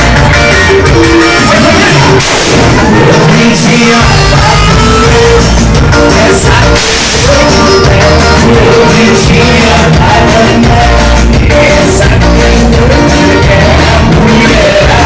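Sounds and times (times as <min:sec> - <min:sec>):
loud live band music: 0:00.0 - 0:15.0
person singing: 0:00.0 - 0:15.0.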